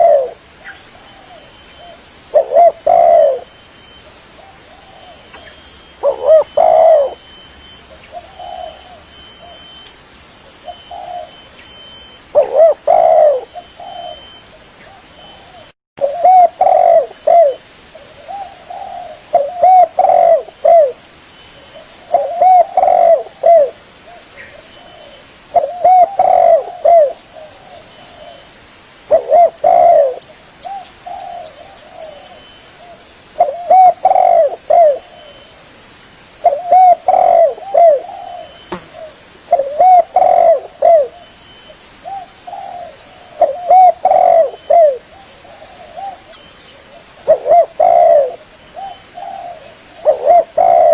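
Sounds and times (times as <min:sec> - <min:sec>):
dove cooing: 0:00.0 - 0:09.8, 0:10.5 - 0:21.0, 0:21.6 - 0:28.5, 0:29.1 - 0:35.6, 0:36.4 - 0:50.9.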